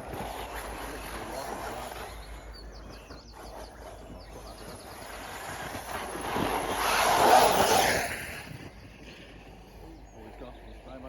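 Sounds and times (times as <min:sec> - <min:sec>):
electric rc car passing by: 0:00.0 - 0:10.4.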